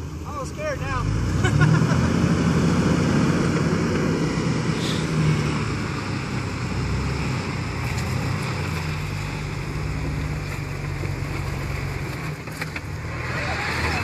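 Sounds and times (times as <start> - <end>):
engine running under load: 0.0 - 14.0.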